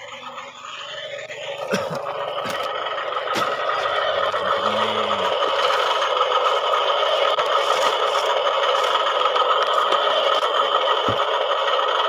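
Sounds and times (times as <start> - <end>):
plastic toy trucks rattling on gravel: 0.0 - 12.0.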